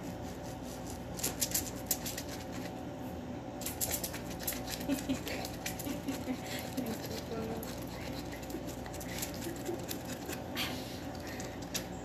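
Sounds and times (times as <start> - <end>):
corer scraping zucchini: 0.0 - 2.8, 3.6 - 10.5
steady low hum: 0.0 - 12.0.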